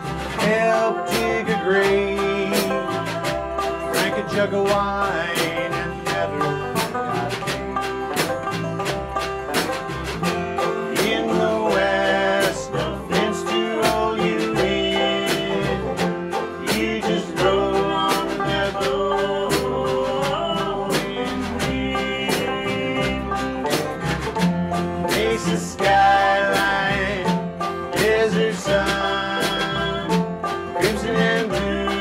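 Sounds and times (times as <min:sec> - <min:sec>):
acoustic guitar: 0:00.0 - 0:32.0
banjo: 0:00.0 - 0:32.0
snare drum: 0:00.0 - 0:32.0
upright bass: 0:00.0 - 0:32.0.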